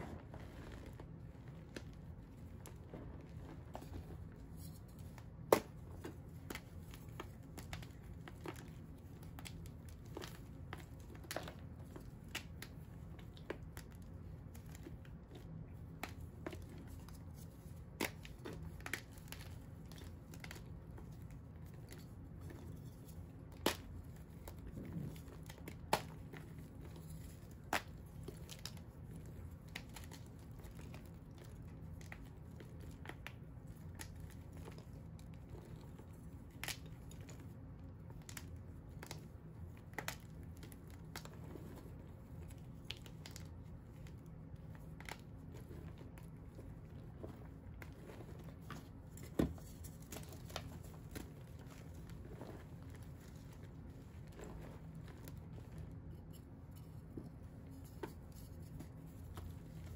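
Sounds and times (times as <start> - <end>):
fingers crunching dried blocks: 3.6 - 59.9.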